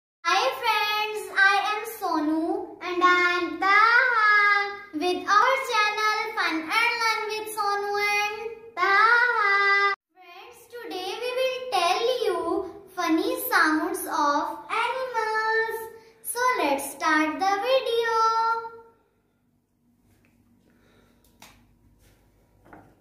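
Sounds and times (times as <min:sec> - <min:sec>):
girl talking sing-song: 0:00.3 - 0:18.8.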